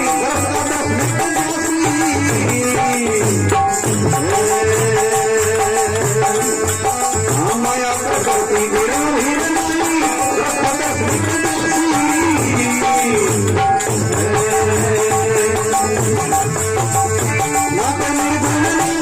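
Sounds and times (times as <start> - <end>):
jingling percussion: 0.0 - 19.0
steady drum beat: 0.0 - 19.0.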